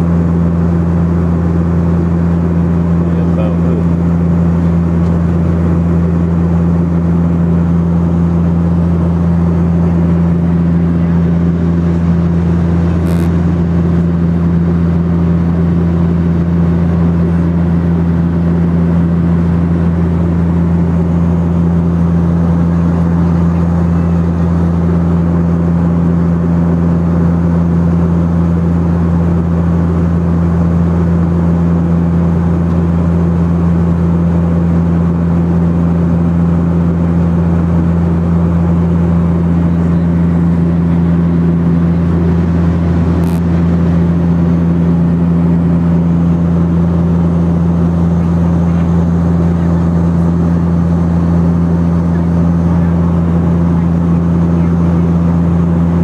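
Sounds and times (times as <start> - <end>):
airliner propeller engines droning: 0.0 - 56.0.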